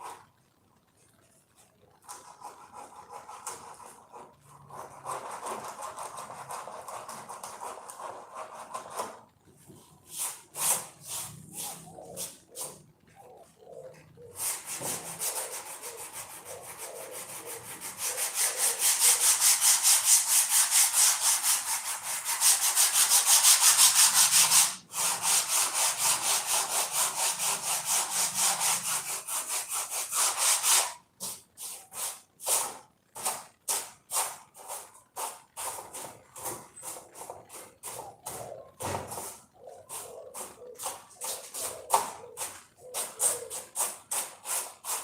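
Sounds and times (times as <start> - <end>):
hand sanding rubbing strokes: 2.0 - 12.8, 14.3 - 45.0.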